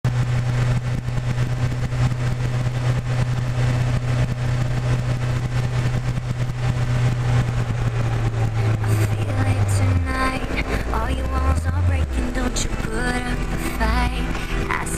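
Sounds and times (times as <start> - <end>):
motorcycle engine cruising: 0.0 - 14.9
riding wind rushing: 0.1 - 14.9.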